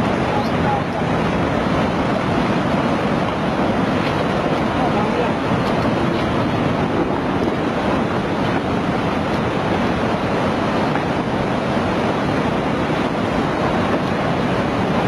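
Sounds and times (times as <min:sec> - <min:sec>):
floodwater rushing with debris: 0:00.0 - 0:15.0.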